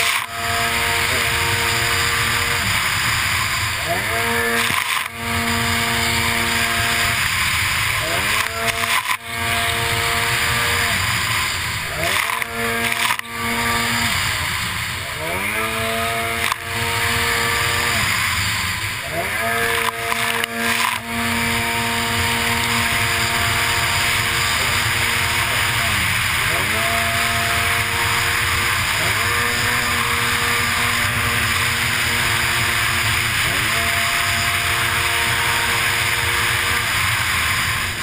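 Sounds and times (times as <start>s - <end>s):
jet ski engine revving: 0.0s - 38.0s
rushing water spray: 0.0s - 38.0s.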